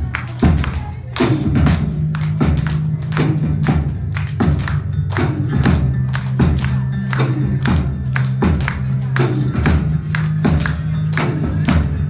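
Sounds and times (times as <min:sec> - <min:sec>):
drum beat: 0:00.0 - 0:12.0
low bass line: 0:00.0 - 0:12.0.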